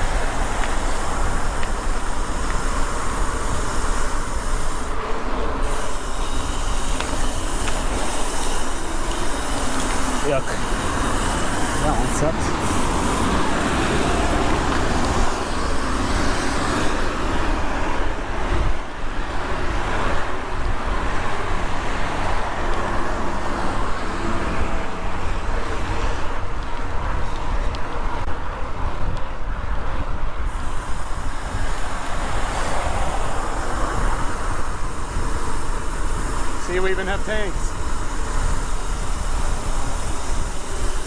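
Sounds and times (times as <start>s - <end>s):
bicycle road noise: 0.0s - 41.0s
rushing wind: 0.0s - 41.0s.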